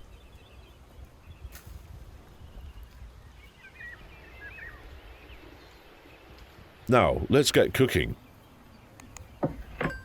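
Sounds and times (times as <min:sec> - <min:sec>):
faint low wind rumble: 0:00.0 - 0:10.0.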